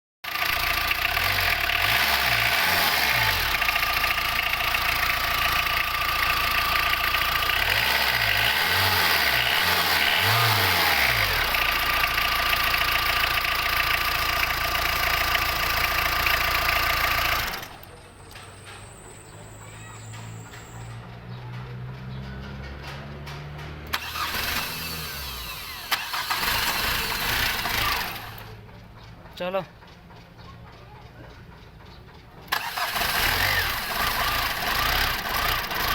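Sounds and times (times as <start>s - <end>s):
diesel engine running: 0.3s - 35.9s.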